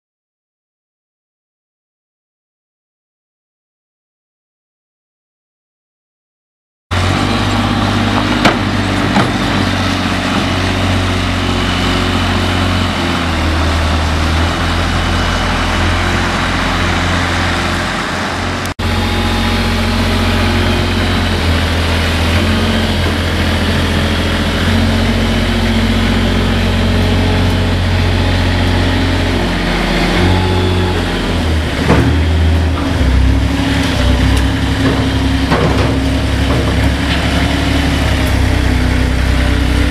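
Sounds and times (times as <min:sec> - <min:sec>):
diesel engine running: 0:06.9 - 0:39.9.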